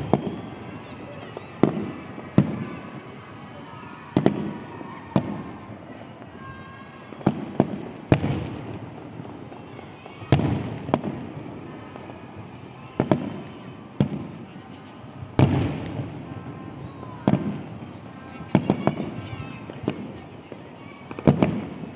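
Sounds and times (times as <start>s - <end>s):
fireworks bursting with echo: 0.0s - 21.9s.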